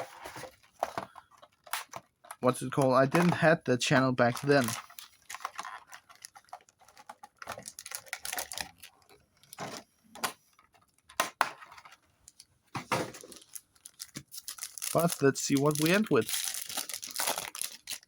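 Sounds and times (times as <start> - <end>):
card packs clicking and rustling: 0.0 - 12.0, 12.9 - 18.0.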